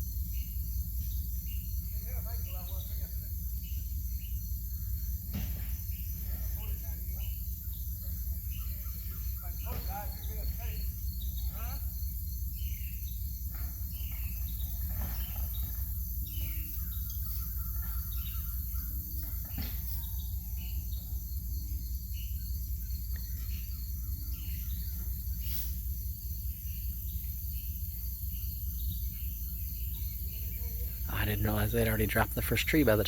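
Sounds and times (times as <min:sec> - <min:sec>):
birds chirping: 0:00.0 - 0:33.0
insects trilling: 0:00.0 - 0:33.0.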